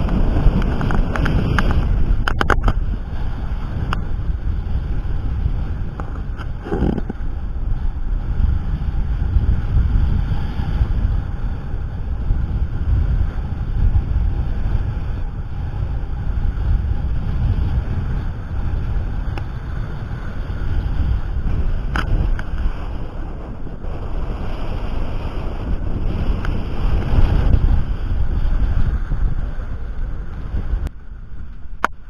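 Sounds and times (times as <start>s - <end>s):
water washing along hull: 0.0s - 32.0s
wind buffeting microphone: 0.0s - 32.0s.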